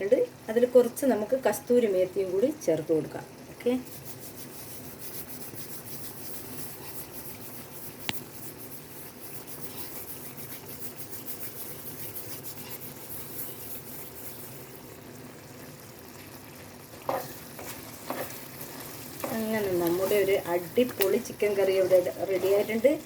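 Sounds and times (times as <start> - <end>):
curry sizzling in a pan: 0.1 - 23.0.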